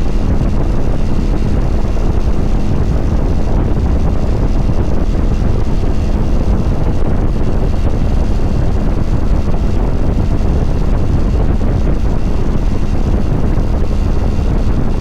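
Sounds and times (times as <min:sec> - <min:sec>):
motorcycle engine cruising: 0:00.0 - 0:15.0
wind rumble on microphone: 0:00.0 - 0:15.0.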